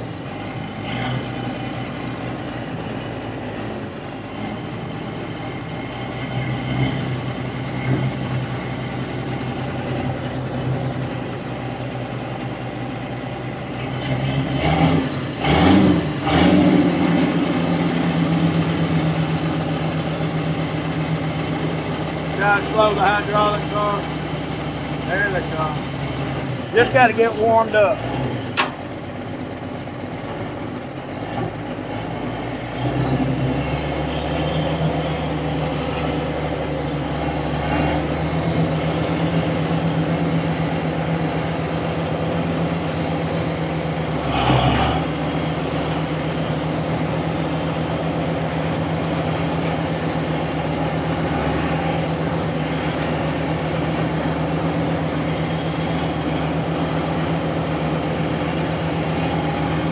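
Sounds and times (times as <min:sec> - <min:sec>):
diesel engine running: 0:00.0 - 0:59.9
hydraulics: 0:00.0 - 0:59.9.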